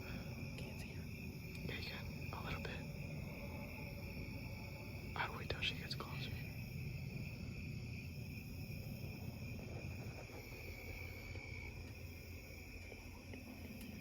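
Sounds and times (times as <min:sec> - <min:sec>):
faint low rumble: 0:00.0 - 0:14.0
high-pitched insect chorus: 0:00.0 - 0:14.0.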